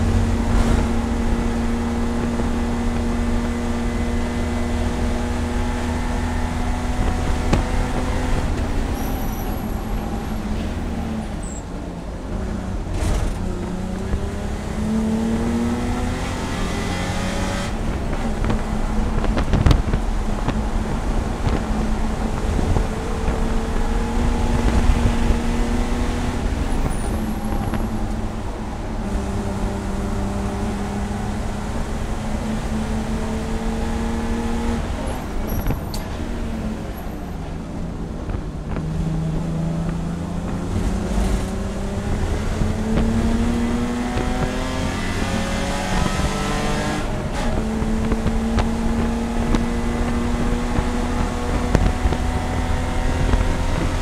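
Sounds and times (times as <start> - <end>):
gear changes: 0.0 - 54.0
race car engine revving: 0.0 - 54.0.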